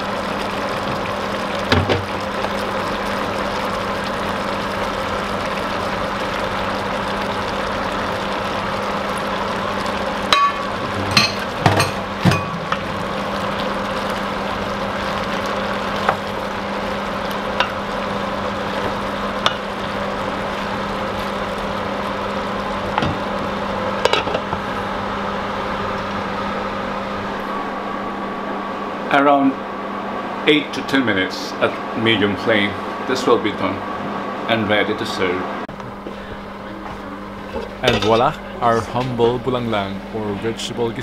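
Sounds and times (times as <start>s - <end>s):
steady hum: 0.0s - 41.0s.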